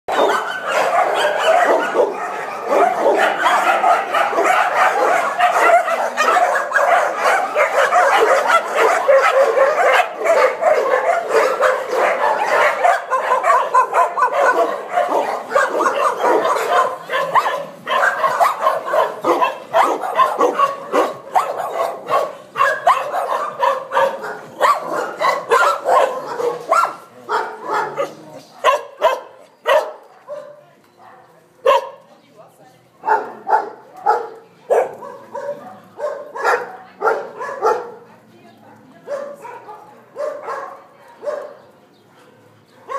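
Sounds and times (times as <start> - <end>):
many dogs barking: 0.1 - 32.1, 33.0 - 42.9.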